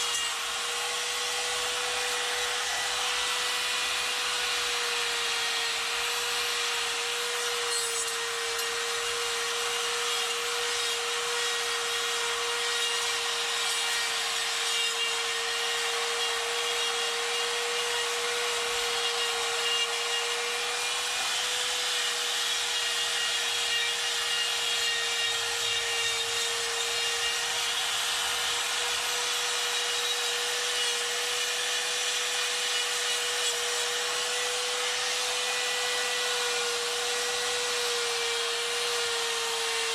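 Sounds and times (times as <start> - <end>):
burr grinding wood: 0.0 - 39.9
die grinder whining: 0.0 - 39.9.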